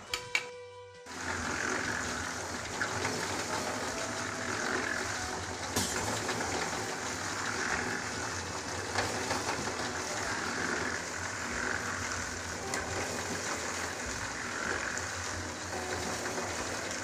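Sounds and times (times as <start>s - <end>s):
concrete mixer running: 0.0s - 17.0s.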